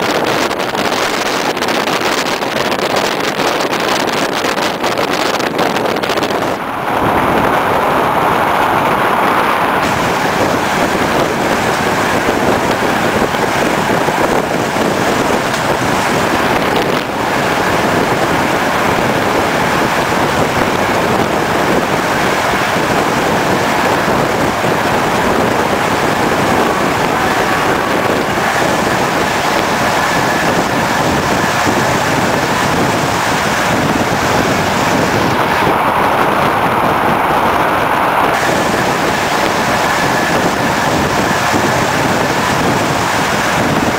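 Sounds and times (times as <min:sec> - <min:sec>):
air rushing past train: 0:00.0 - 0:43.9
wheels on track: 0:00.0 - 0:43.9.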